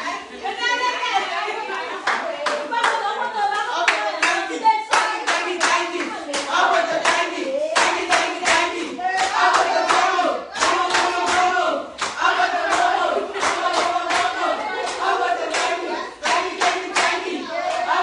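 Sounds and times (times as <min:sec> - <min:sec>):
group singing: 0:00.0 - 0:18.0
rhythmic hand-clapping: 0:01.8 - 0:18.0.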